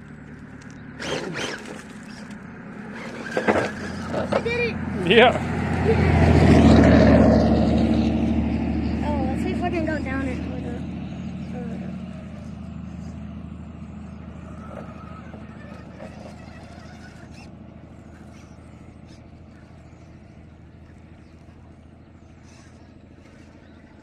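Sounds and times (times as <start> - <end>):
electric motor and gears humming: 0.0 - 6.8, 9.0 - 24.0.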